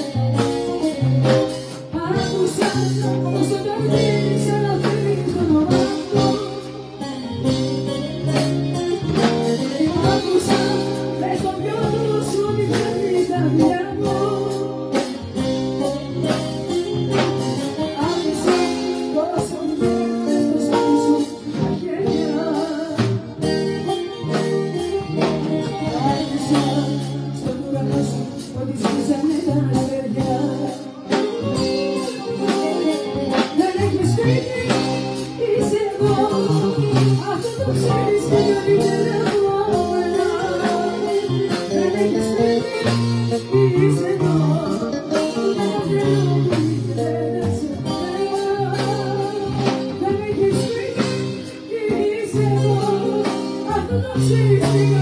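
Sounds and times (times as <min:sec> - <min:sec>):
woman singing into a microphone: 0:00.0 - 0:55.0.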